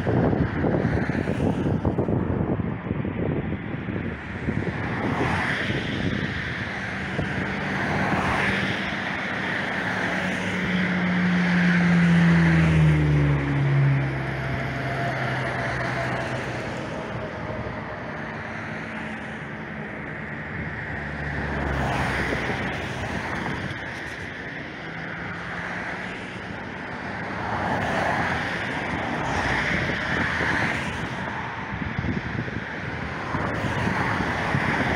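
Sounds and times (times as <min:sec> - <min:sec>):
road traffic: 0:00.0 - 0:34.9
wind on microphone: 0:00.0 - 0:34.9
vehicle passing by: 0:04.0 - 0:34.9.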